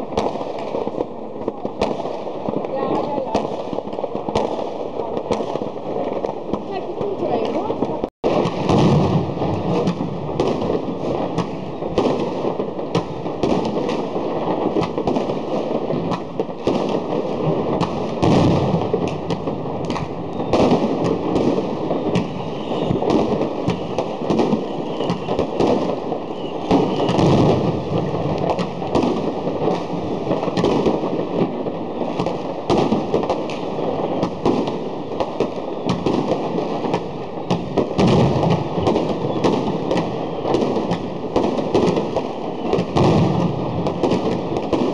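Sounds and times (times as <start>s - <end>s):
fireworks crackling and banging: 0.0s - 44.9s.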